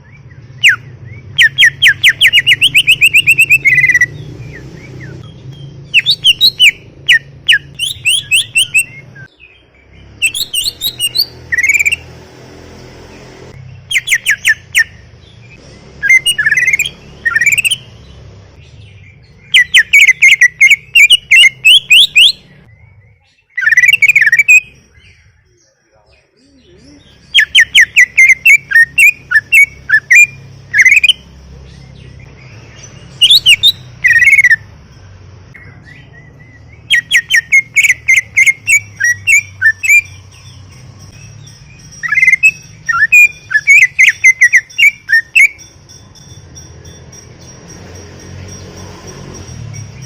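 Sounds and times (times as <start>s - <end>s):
bird singing chirps and whistles: 0.0s - 12.2s, 13.6s - 34.7s, 35.5s - 48.8s.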